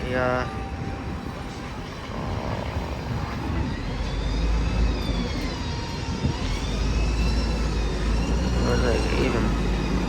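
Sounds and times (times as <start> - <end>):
heavy vehicle engine rumble: 0.0 - 10.0.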